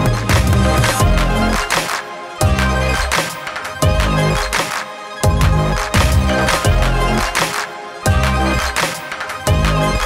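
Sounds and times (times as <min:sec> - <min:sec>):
electronic music with heavy bass beat: 0:00.0 - 0:10.0.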